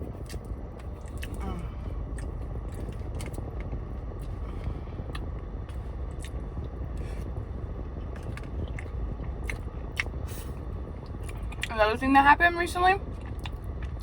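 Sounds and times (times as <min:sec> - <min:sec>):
person chewing food: 0:00.0 - 0:11.7, 0:13.1 - 0:14.0
car air conditioning hum: 0:00.0 - 0:14.0.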